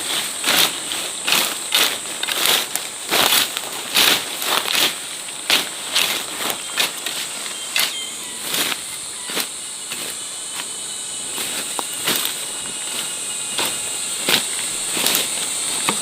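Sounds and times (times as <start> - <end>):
insects chirring: 0.0 - 16.0
rustling scraping sounds: 0.0 - 16.0.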